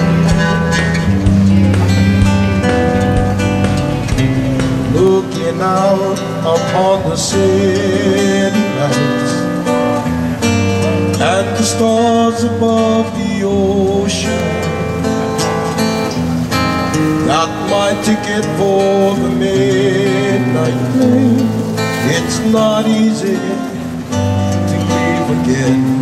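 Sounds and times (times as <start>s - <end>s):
man singing: 0.0s - 15.3s, 17.0s - 26.0s
strummed guitars: 0.0s - 26.0s.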